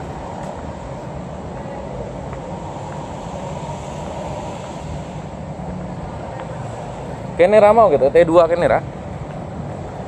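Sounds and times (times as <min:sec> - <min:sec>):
outdoor background rumble: 0:00.0 - 0:10.0.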